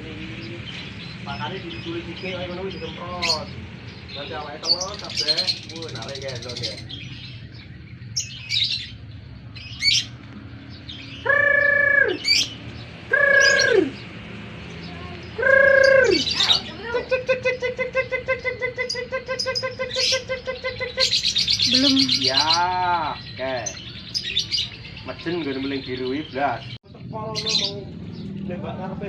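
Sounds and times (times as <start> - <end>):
cage birds chirping: 0.0 - 29.0.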